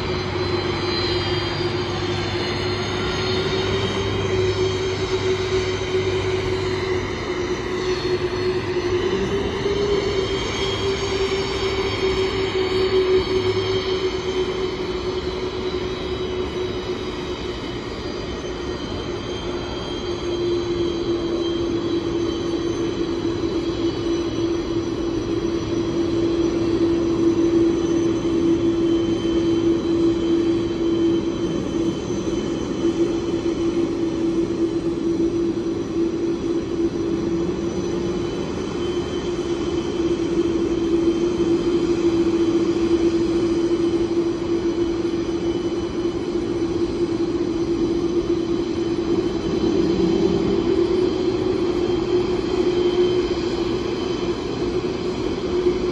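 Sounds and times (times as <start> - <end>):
jet engines idling: 0.0 - 55.9.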